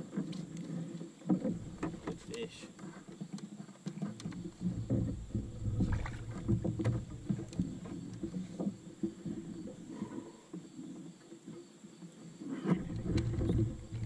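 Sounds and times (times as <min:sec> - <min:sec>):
knocks and thuds on kayak: 0:00.0 - 0:10.0, 0:12.6 - 0:14.0.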